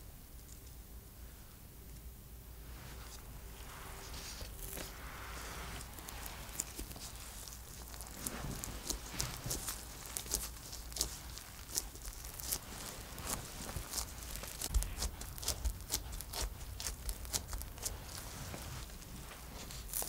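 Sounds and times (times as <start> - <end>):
gloves squishing wet dough: 2.8 - 20.0.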